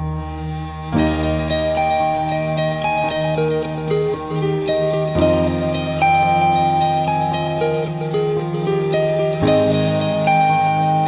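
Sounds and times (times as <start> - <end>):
plucked guitar notes: 0.0 - 11.0
sustained tones: 0.0 - 11.0.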